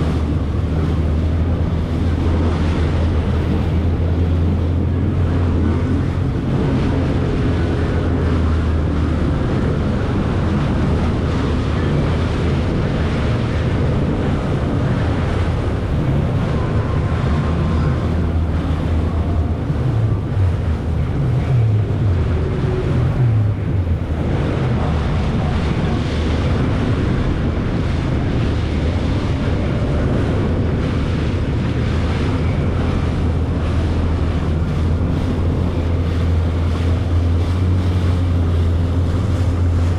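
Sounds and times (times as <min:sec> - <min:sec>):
jet ski engine running: 0:00.0 - 0:39.9
water rushing past hull: 0:00.0 - 0:39.9
wind buffeting microphone: 0:00.0 - 0:39.9.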